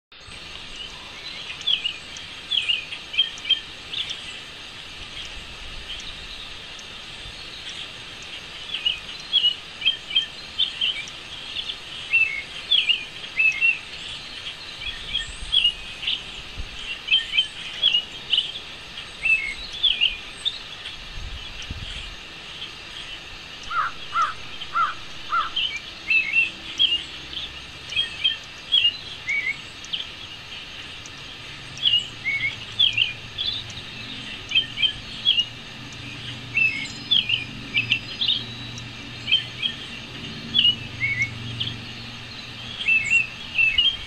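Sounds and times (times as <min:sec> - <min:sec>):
birds chirping: 0:00.1 - 0:44.0
steady background noise: 0:00.1 - 0:44.0.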